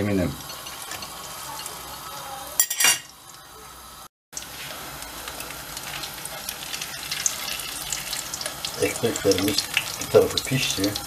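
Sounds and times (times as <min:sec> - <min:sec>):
bread sizzling in hot oil: 0:00.0 - 0:11.0.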